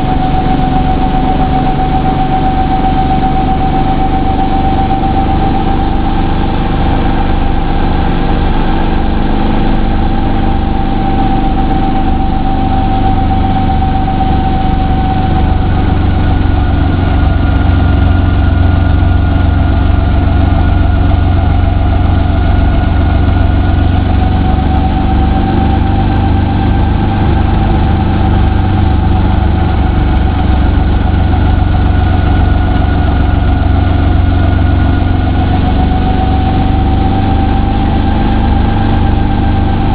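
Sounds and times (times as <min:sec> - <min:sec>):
helicopter engine drone: 0:00.0 - 0:39.9
high whine: 0:00.0 - 0:39.9
rotor blades beating: 0:00.0 - 0:39.9.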